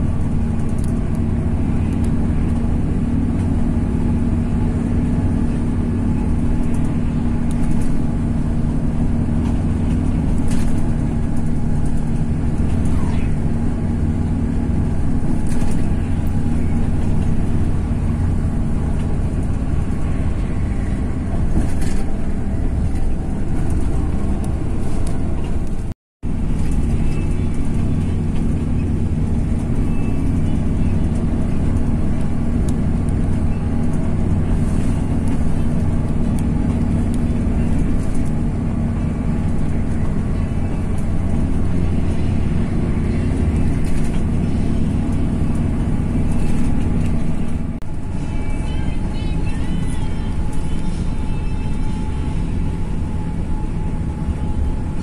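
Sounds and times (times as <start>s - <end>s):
bus engine and road drone: 0.0s - 55.0s.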